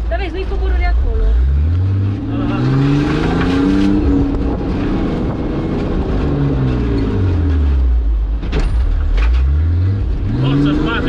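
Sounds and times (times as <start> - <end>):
truck engine revving: 0.0 - 8.3, 9.0 - 11.0.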